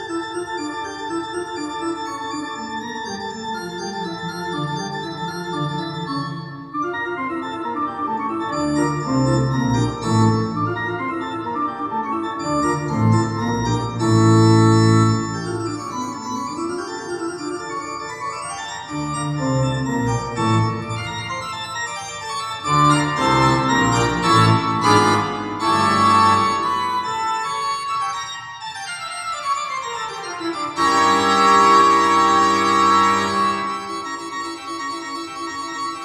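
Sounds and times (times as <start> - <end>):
sustained keyboard chords: 0.0 - 36.0.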